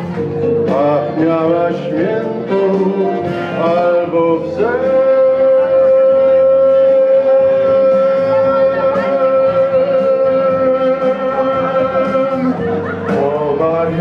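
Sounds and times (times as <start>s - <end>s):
backing accompaniment: 0.0s - 14.0s.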